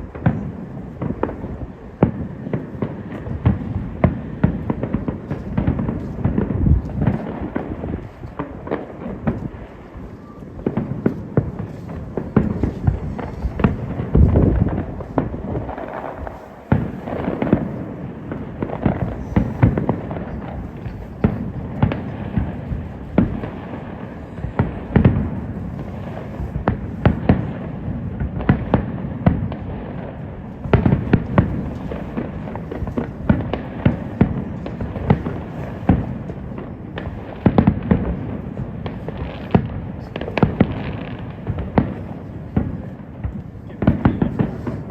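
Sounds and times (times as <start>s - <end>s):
fireworks booming and crackling: 0.0s - 44.9s.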